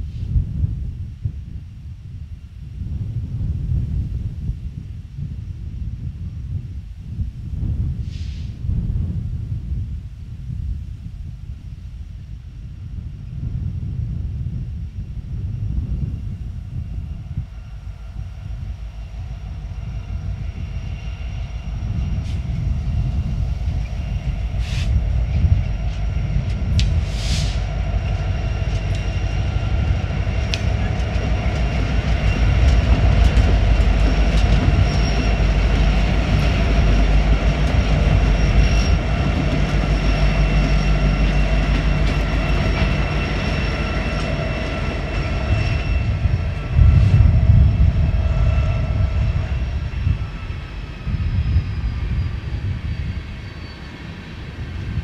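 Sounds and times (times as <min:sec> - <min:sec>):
diesel locomotive engines droning: 0:00.0 - 0:55.0
wind buffeting microphone: 0:00.0 - 0:55.0.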